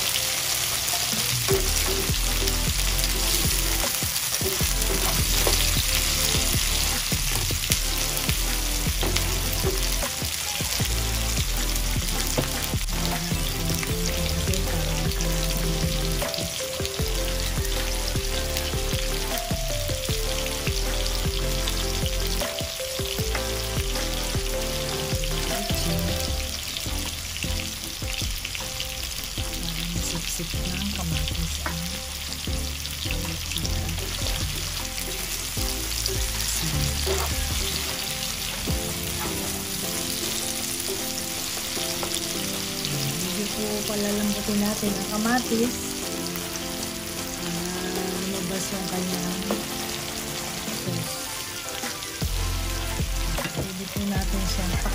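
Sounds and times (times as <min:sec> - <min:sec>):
background music with bass: 0:00.0 - 0:54.9
vegetables sizzling in oil: 0:00.0 - 0:54.9.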